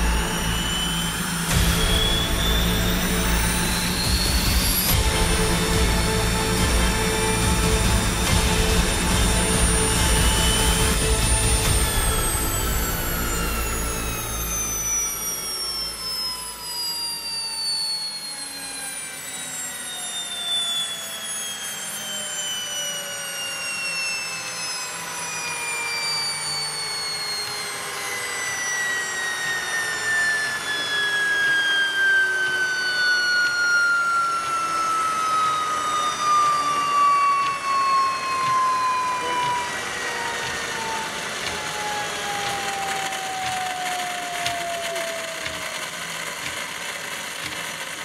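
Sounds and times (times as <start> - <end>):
turbine whine falling in pitch: 0.0 - 48.0.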